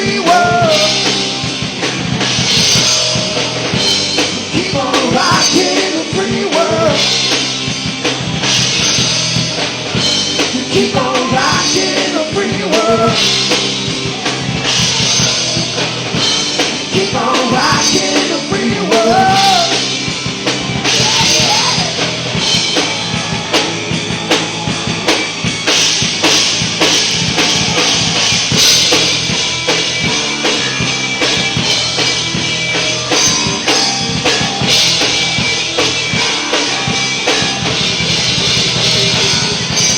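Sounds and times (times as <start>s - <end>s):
drum kit and cymbals: 0.0s - 39.9s
live rock band playing: 0.0s - 39.9s.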